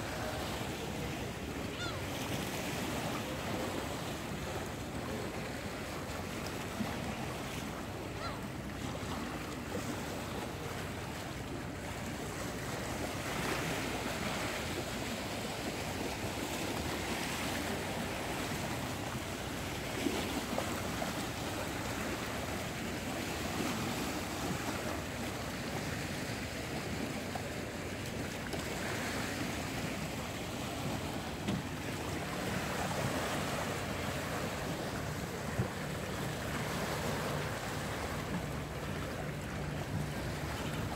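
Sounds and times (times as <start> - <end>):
waves washing over rocks: 0.0 - 1.1, 9.0 - 40.9.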